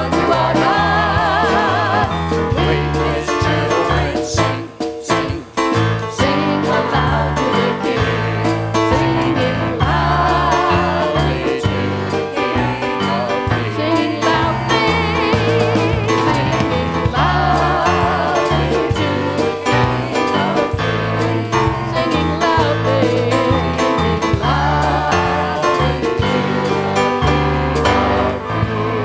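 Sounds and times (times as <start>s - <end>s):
band playing worship song: 0.0s - 29.0s
bass line: 0.0s - 29.0s
person singing with vibrato: 0.0s - 29.0s.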